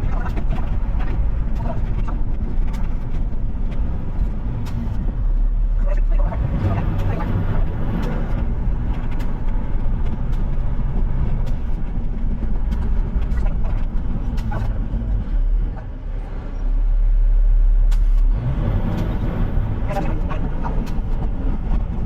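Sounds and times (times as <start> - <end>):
truck engine rumble from cab: 0.0 - 22.0.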